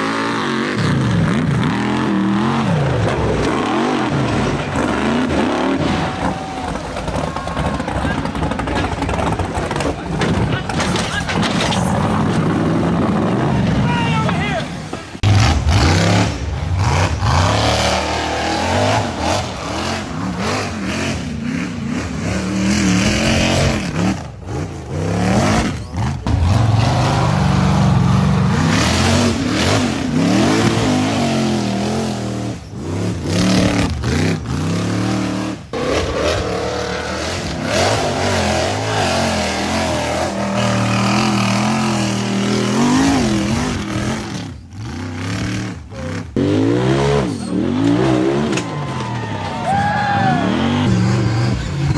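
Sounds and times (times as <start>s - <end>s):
engines revving and accelerating: 0.0s - 51.9s.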